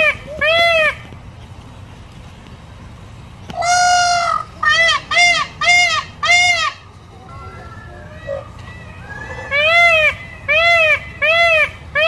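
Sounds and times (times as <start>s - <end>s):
peacock calling: 0.0s - 1.2s, 3.5s - 12.0s.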